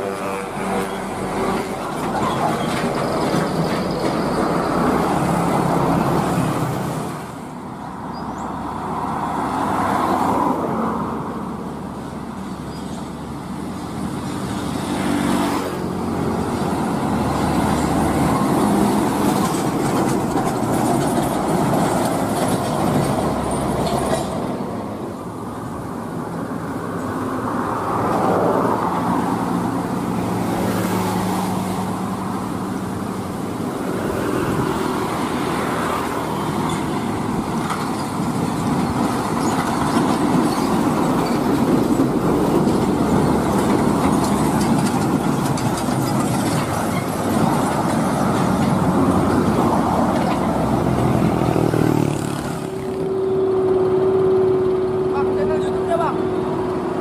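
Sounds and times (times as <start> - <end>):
heavy trucks passing: 0.0 - 57.0.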